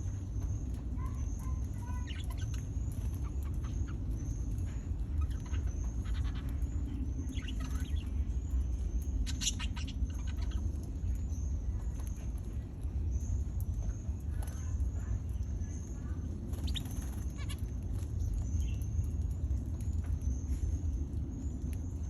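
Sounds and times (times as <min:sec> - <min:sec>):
constant low rumble: 0:00.0 - 0:22.0
small birds chirping and chattering: 0:00.0 - 0:22.0.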